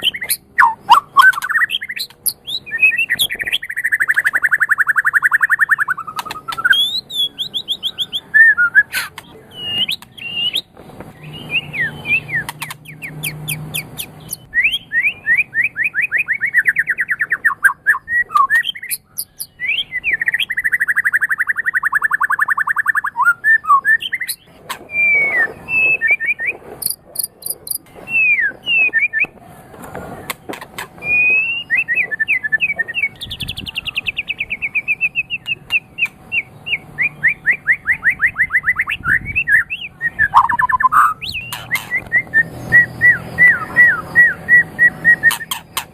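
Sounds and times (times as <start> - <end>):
songbird trilling and whistling: 0.0 - 29.4, 31.0 - 45.9.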